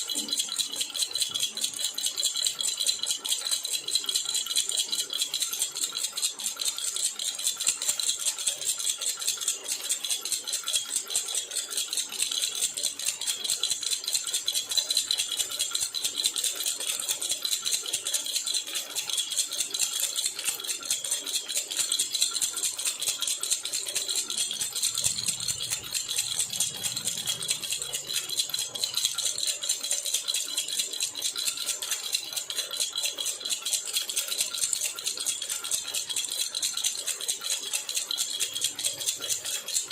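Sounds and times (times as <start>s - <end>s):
metal baby rattle jingling: 0.0s - 39.9s.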